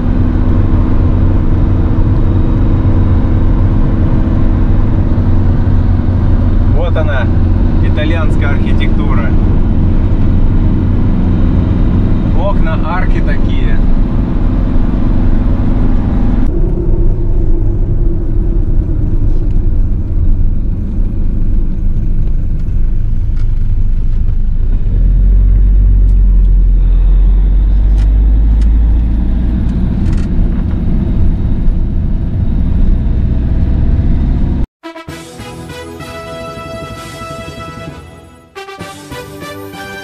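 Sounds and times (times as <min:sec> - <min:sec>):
vehicle low rumble: 0:00.0 - 0:34.7.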